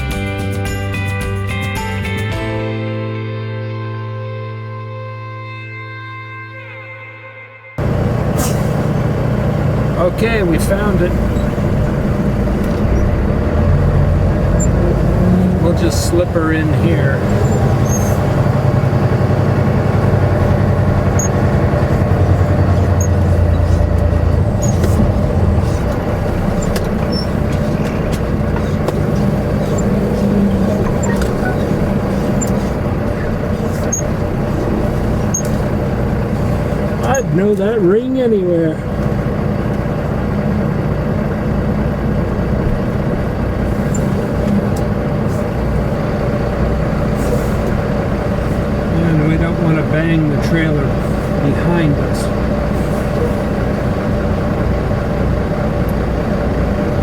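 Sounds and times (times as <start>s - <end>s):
diesel truck engine running: 0.0s - 2.8s, 7.8s - 57.0s.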